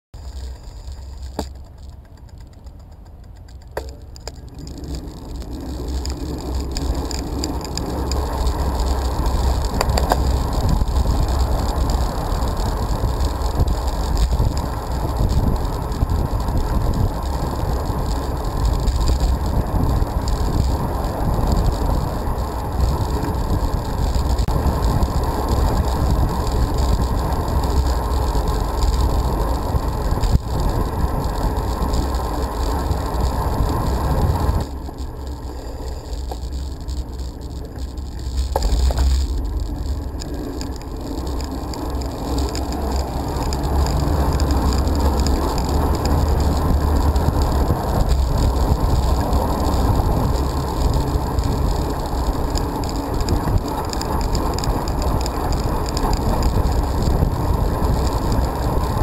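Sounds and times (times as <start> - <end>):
car engine and tyre noise: 0.0 - 59.0
sharp clicks: 0.2 - 59.0.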